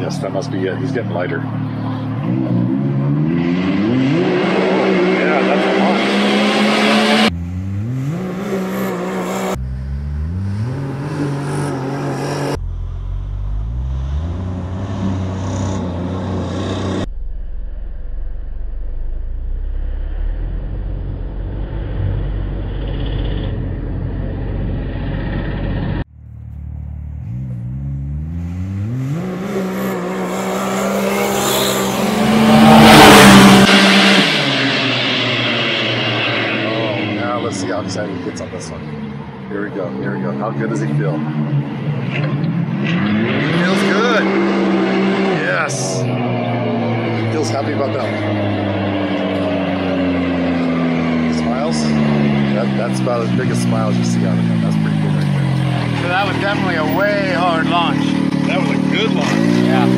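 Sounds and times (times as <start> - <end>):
engine accelerating hard: 0.0 - 59.9.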